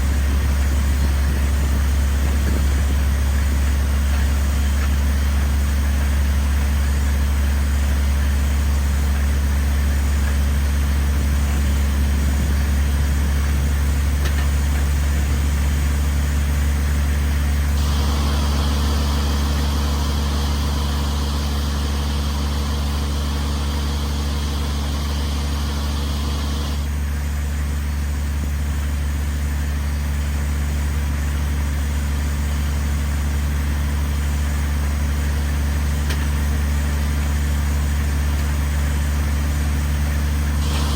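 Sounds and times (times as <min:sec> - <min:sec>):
drilling rig engine humming: 0:00.0 - 0:40.9.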